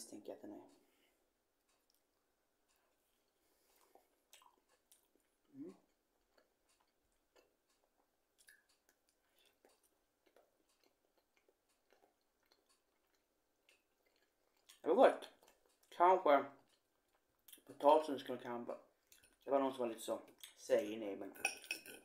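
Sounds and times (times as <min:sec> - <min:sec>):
person chewing food: 0:00.7 - 0:17.8, 0:18.9 - 0:19.5, 0:20.3 - 0:20.6.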